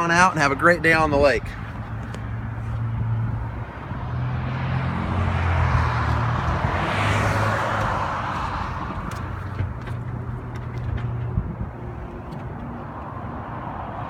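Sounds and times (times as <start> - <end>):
low engine hum: 0.0 - 14.0
rush of passing vehicle: 0.4 - 14.0.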